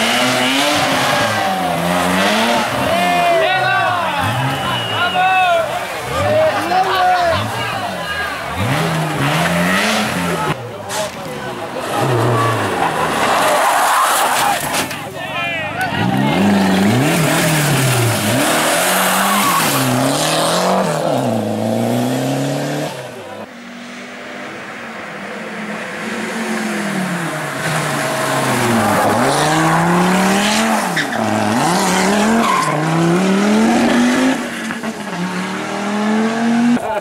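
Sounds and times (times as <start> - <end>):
rally car engines at full throttle: 0.0 - 37.0.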